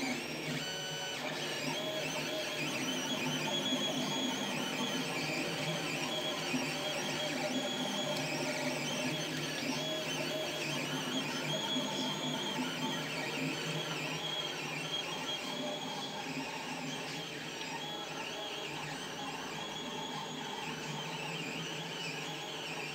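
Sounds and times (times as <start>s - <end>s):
stepper motors whining: 0.0s - 22.9s.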